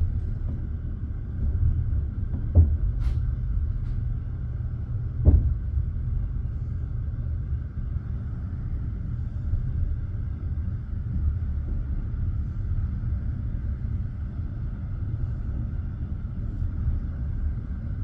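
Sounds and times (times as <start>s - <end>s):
train carriage rumbling on track: 0.0s - 18.0s.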